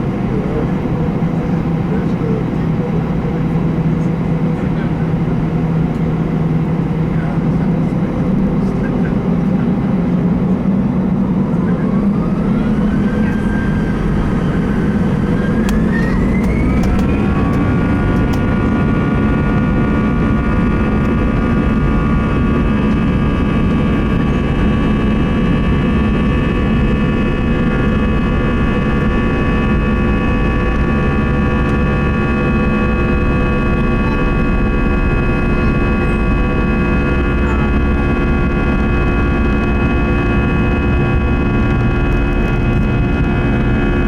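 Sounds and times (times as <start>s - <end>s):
jet engines spooling up: 0.0s - 44.0s
low rumble: 0.0s - 44.0s.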